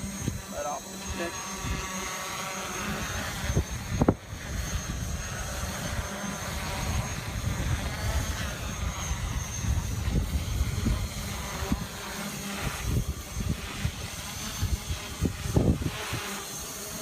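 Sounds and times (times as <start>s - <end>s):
drone motors whining: 0.0s - 17.0s
wind buffeting microphone: 2.6s - 16.4s.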